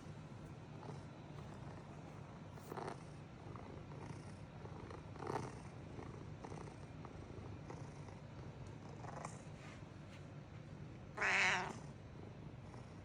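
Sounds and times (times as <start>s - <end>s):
cat purring: 0.4s - 9.6s, 10.7s - 13.0s.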